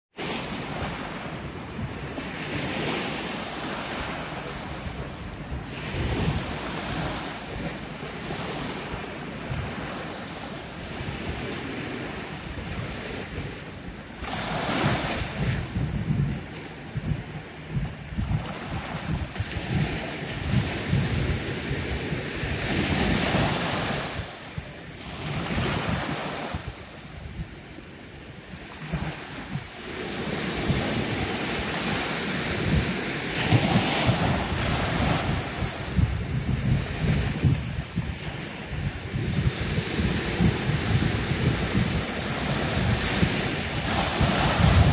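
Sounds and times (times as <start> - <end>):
sea waves washing in: 0.2 - 44.9
wind buffeting microphone: 0.2 - 44.9.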